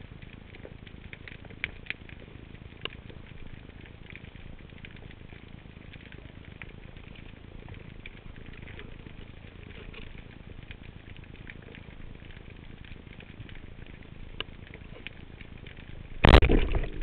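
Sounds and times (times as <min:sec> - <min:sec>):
faint clicks and crackles: 0:00.0 - 0:17.0
low underwater rumble: 0:00.0 - 0:17.0.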